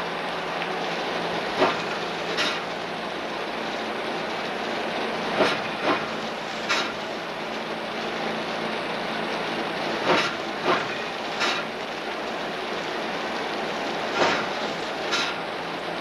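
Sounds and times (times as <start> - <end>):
train rolling along track: 0.0 - 16.0.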